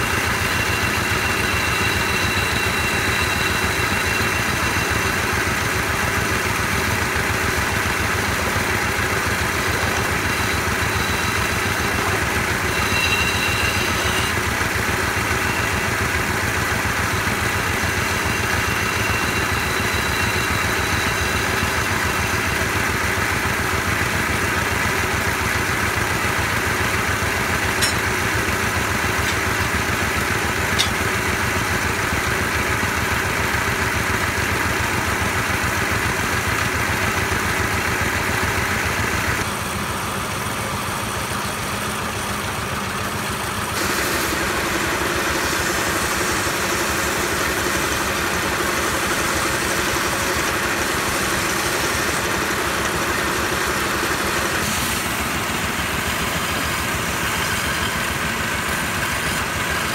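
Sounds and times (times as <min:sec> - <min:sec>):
wood lathe running: 0:00.0 - 0:39.5, 0:43.6 - 0:59.9.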